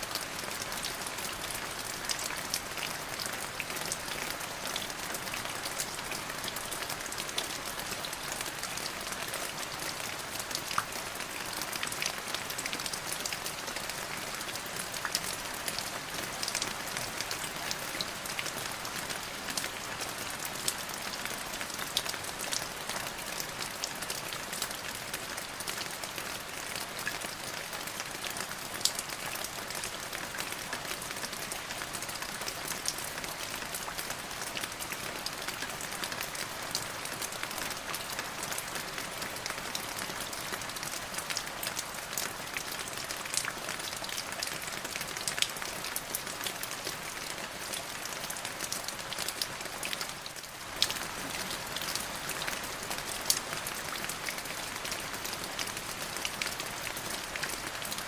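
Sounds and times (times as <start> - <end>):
rain pattering on surface: 0.0 - 58.0.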